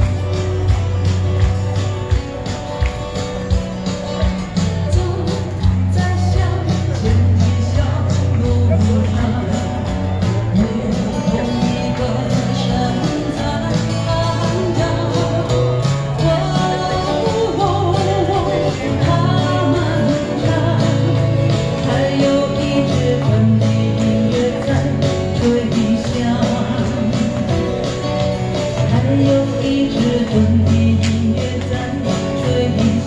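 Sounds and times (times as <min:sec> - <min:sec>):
bass line: 0:00.0 - 0:33.0
electric guitar: 0:00.0 - 0:33.0
woman singing into a microphone: 0:04.8 - 0:33.0.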